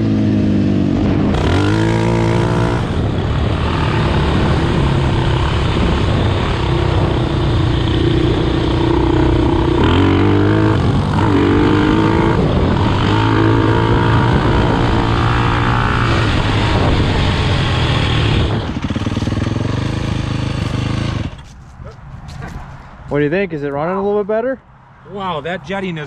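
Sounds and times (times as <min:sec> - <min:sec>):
off-road engine revving hard: 0:00.0 - 0:21.5.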